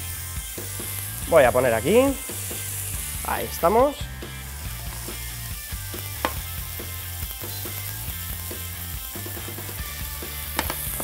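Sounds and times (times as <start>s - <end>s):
food sizzling in frying pans: 0.0s - 11.0s.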